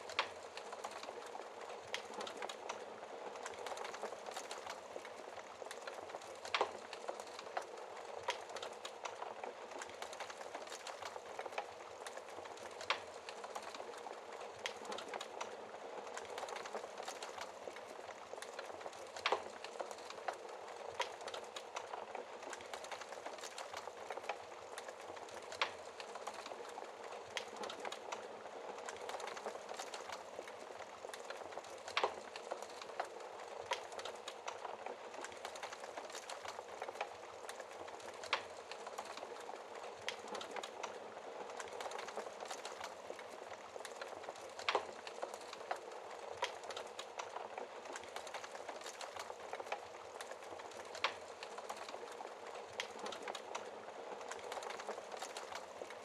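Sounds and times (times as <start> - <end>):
burning logs popping: 0.0 - 56.0
wood fire crackling: 0.0 - 56.0.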